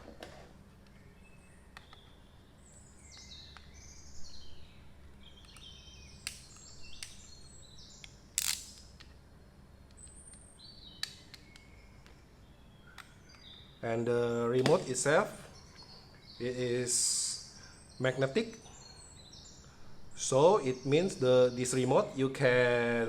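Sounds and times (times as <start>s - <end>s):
small birds chirping: 0.8s - 23.0s.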